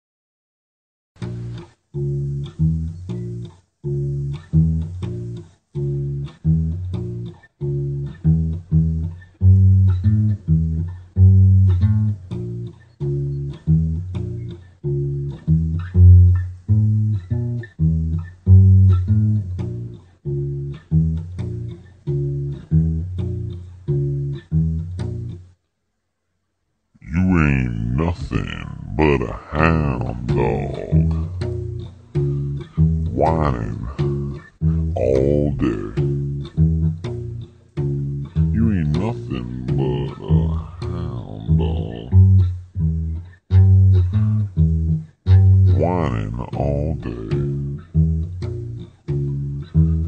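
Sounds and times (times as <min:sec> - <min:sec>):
plucked bass riff: 0:01.2 - 0:25.4, 0:27.1 - 0:50.0.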